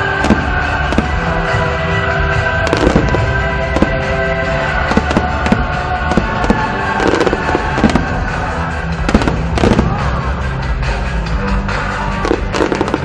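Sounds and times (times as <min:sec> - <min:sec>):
fireworks bangs and crackles: 0:00.0 - 0:10.6, 0:12.0 - 0:13.0
music with long held notes: 0:00.0 - 0:13.0.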